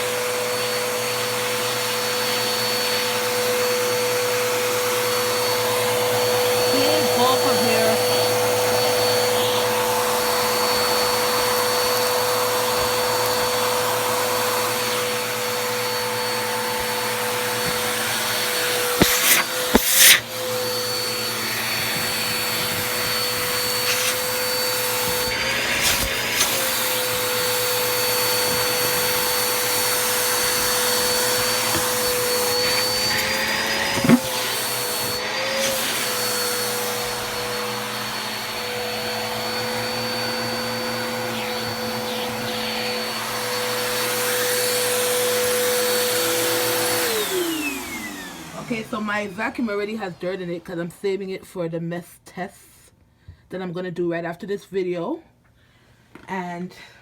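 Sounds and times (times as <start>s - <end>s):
vacuum cleaner whining: 0.0s - 50.7s.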